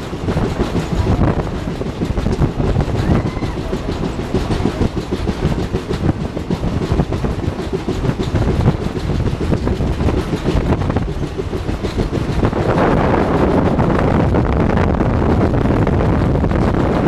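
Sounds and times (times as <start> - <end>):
train wheels clacking on track: 0.0 - 14.4, 15.2 - 17.0.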